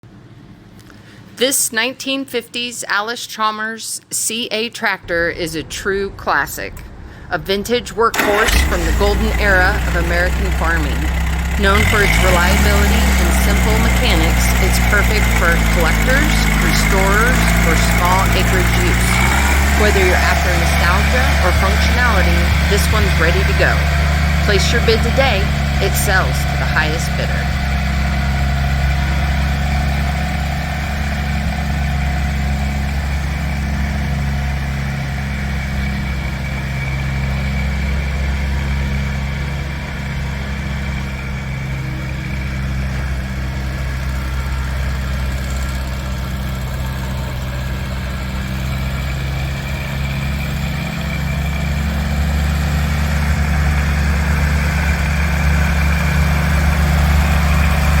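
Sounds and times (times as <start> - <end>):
tractor engine idling: 5.0 - 58.0.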